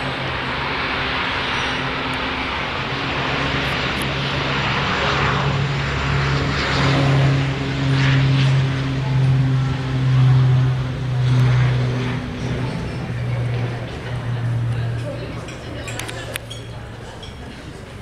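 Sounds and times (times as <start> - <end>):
turboprop engines at take-off power: 0.0 - 16.4
low propeller drone: 0.0 - 18.0.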